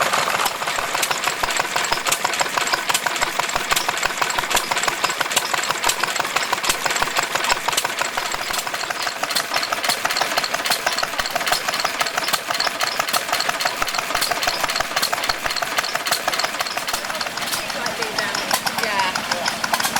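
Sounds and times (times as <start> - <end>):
engine running with mechanical clatter: 0.0 - 19.9.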